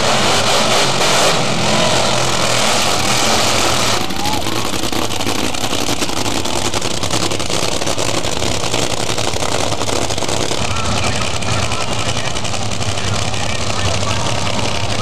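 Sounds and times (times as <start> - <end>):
drag racing engines crackling: 0.0 - 15.0.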